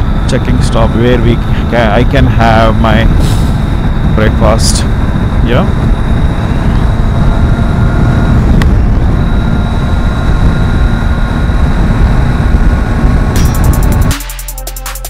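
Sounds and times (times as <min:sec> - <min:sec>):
road noise: 0:00.0 - 0:14.1
wind buffeting microphone: 0:00.0 - 0:14.1.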